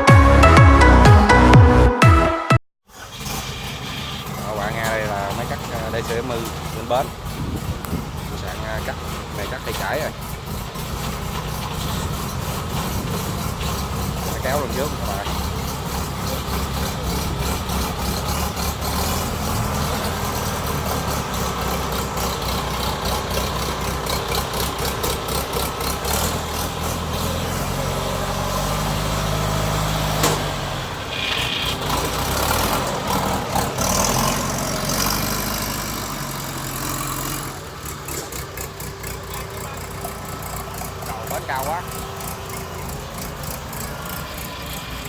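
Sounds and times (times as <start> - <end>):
diesel engine running: 2.9 - 45.0.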